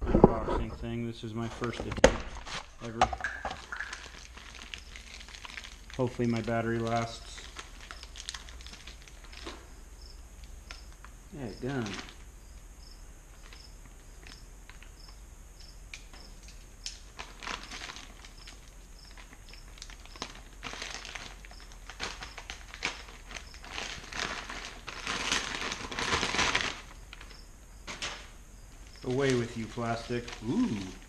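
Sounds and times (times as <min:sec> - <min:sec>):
plastic wrap crinkling: 0:01.4 - 0:09.7, 0:10.4 - 0:12.3, 0:15.9 - 0:31.0.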